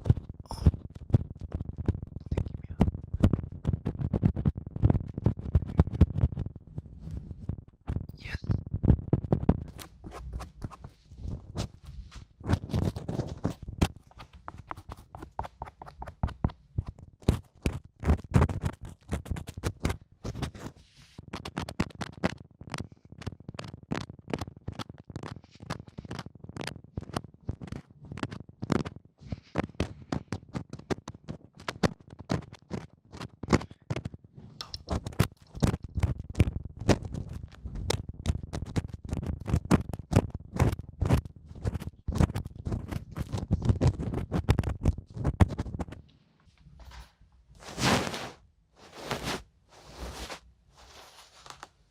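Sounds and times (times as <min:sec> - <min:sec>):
taps and scratches on microphone: 0:00.0 - 0:51.9.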